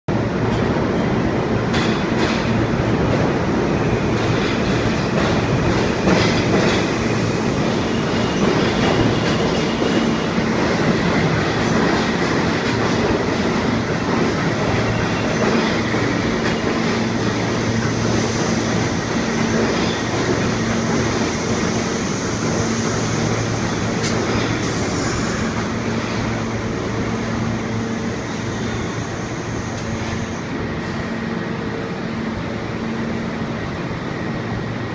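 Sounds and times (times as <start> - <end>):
subway train rumbling: 0.1 - 34.9.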